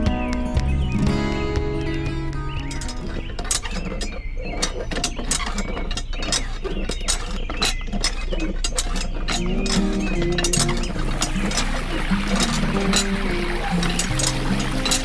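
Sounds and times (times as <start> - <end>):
small hard parts clicking and rattling: 1.0 - 15.0.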